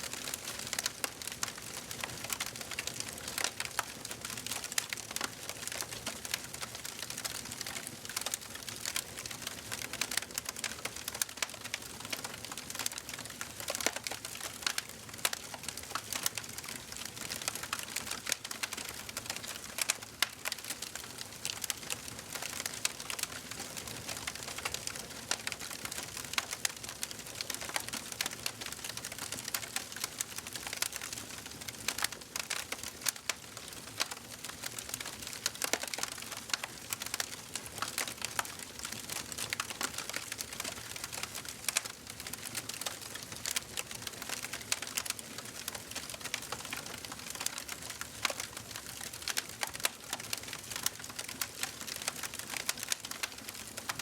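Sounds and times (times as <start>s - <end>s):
wood fire crackling: 0.1s - 54.0s.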